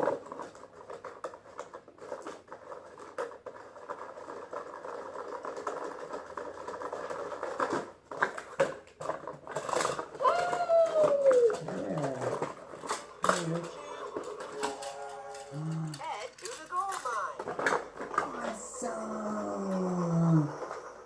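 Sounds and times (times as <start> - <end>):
toy packaging rustling and crinkling: 0.0 - 21.0.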